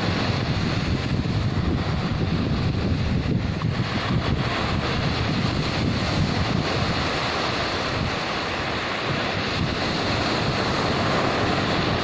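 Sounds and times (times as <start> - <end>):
surf washing up a beach: 0.0 - 12.0
wind buffeting the microphone: 0.0 - 12.0.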